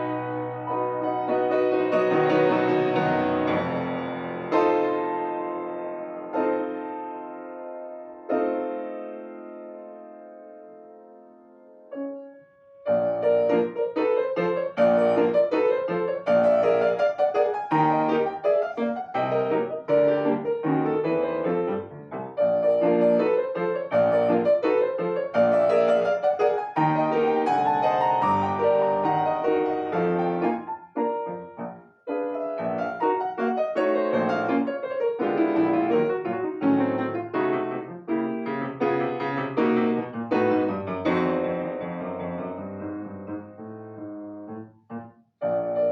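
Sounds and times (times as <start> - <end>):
solo piano classical piece: 0.0 - 45.9.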